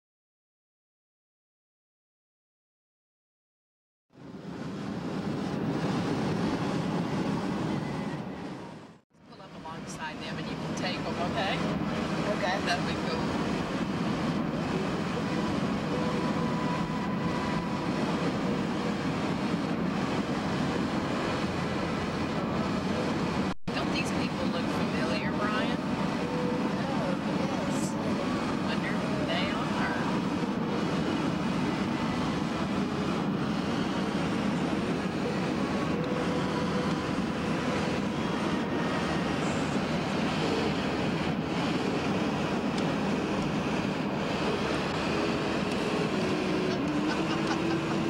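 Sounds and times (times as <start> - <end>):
vehicle road noise: 4.1 - 48.0
faint steady whines: 4.2 - 48.0.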